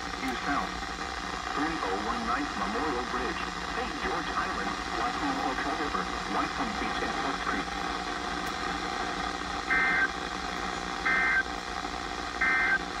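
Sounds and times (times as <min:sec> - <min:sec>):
buzzy digital data bursts: 0:00.0 - 0:13.0
radio hiss: 0:00.0 - 0:13.0.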